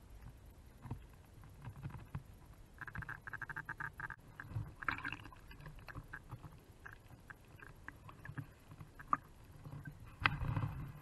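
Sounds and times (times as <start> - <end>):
low rumble of water: 0.0 - 11.0.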